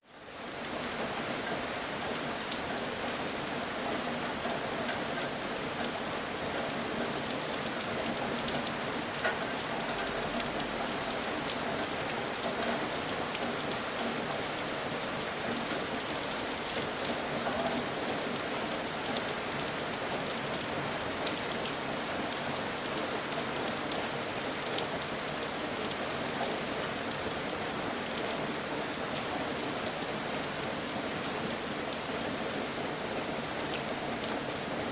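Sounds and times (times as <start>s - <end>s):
steady rain pattering: 0.0s - 34.9s.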